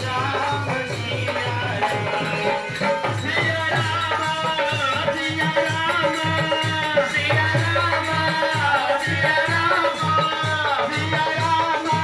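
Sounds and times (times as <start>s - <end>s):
jingling percussion: 0.0s - 12.0s
man singing a chant: 0.0s - 12.0s.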